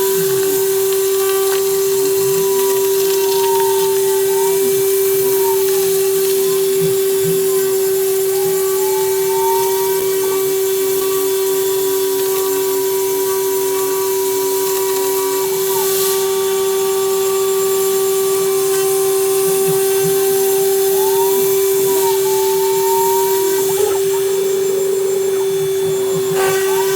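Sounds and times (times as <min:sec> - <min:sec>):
axis motors whining: 0:00.0 - 0:26.9
hiss of cutting: 0:00.0 - 0:26.9
router spindle high whine: 0:00.0 - 0:26.9.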